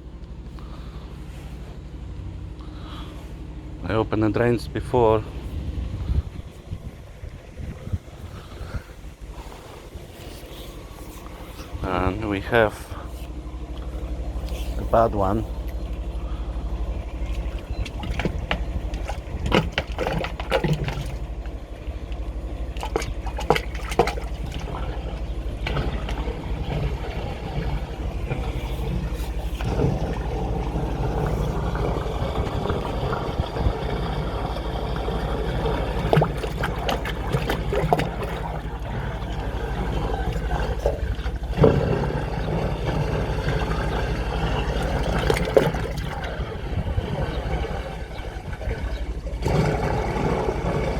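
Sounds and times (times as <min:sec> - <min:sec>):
drain-jetting machine engine running: 0:00.0 - 0:50.9
water rushing and gurgling in drain: 0:06.8 - 0:50.9.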